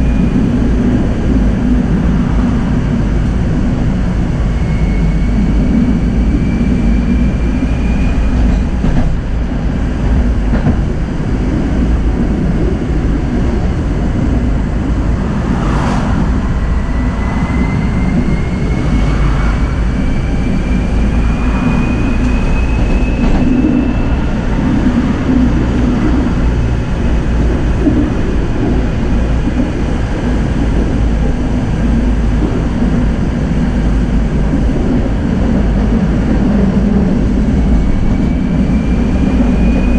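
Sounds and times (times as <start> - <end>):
tram wheels rumbling on rails: 0.0 - 39.9
tram whine rising in pitch: 0.0 - 39.9.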